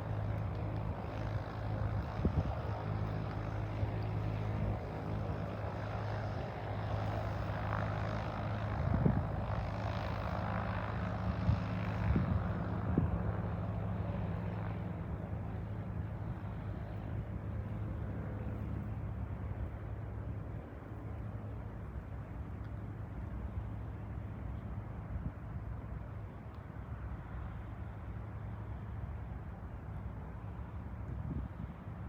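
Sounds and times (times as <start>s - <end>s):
propeller aircraft engine: 0.0s - 32.0s.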